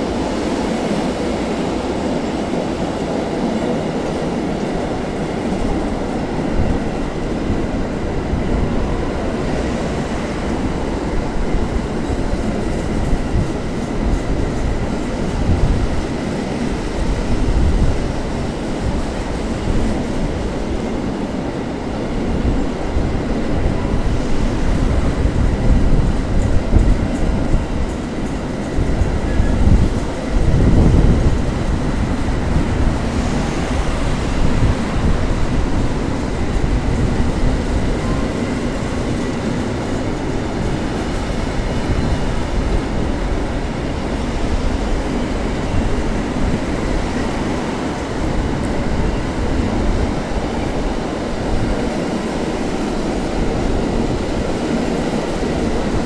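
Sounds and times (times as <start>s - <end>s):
freight wagons rumbling on rails: 0.0s - 56.0s.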